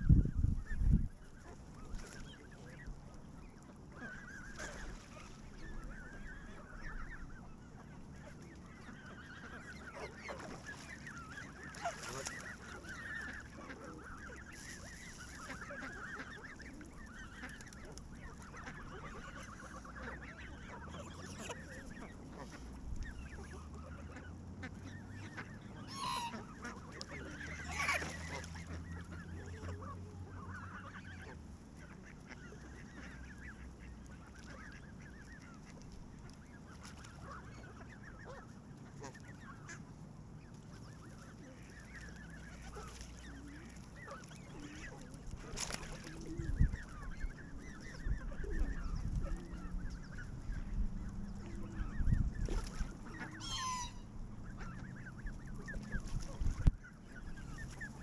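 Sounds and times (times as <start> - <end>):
geese honking: 0.1 - 58.0.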